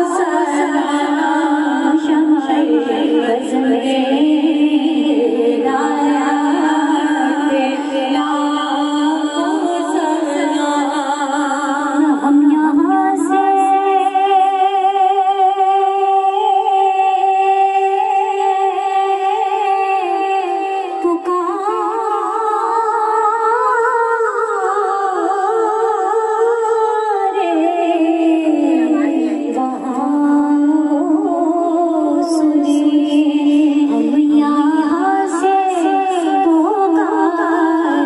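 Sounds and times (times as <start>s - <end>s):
women singing in unison: 0.0s - 38.0s.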